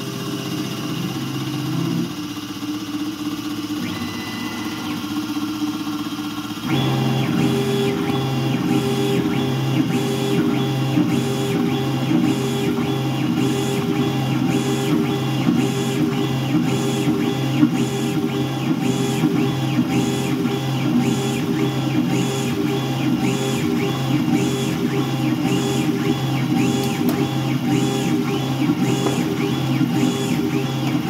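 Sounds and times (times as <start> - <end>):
motor whine pitch sweeps: 0.0 - 31.0.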